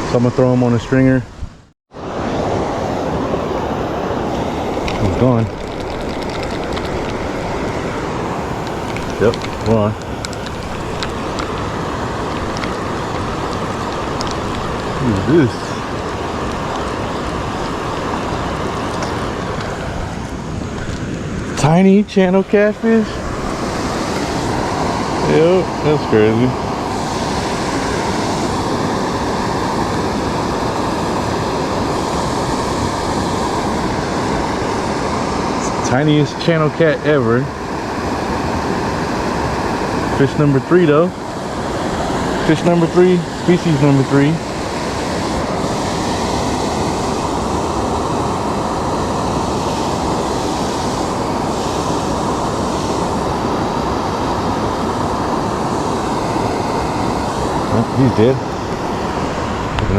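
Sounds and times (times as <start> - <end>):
waterfall rushing: 2.0 - 59.9.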